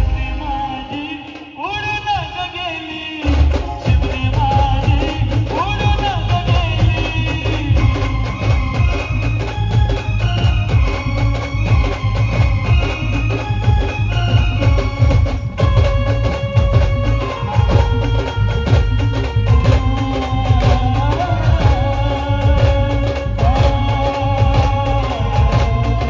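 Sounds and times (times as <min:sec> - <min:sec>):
heavy steady drumming: 0:00.0 - 0:26.0
instrumental melody: 0:03.6 - 0:26.0.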